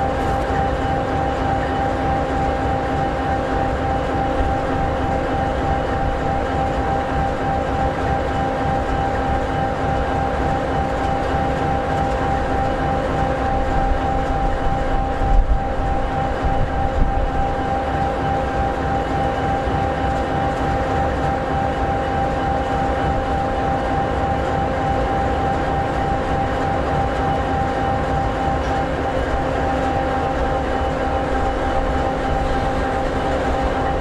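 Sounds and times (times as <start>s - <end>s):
diesel locomotive idling: 0.0s - 34.0s.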